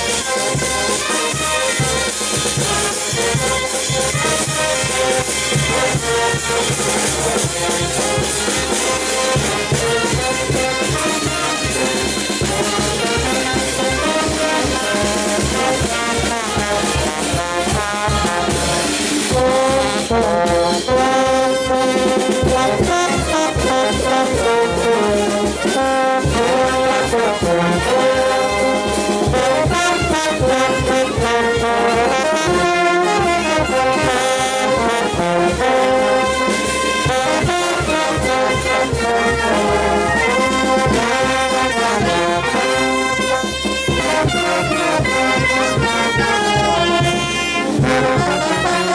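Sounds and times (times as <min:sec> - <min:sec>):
steady drum beat: 0:00.0 - 0:48.9
trumpets and trombones melody: 0:00.0 - 0:48.9.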